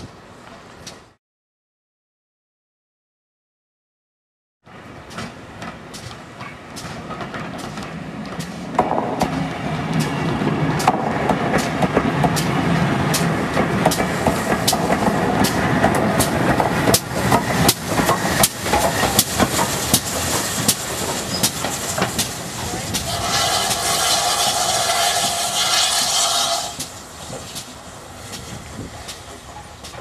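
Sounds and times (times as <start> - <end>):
steam train rumbling past: 4.7 - 30.0
wheels clicking over rail joints: 4.9 - 30.0.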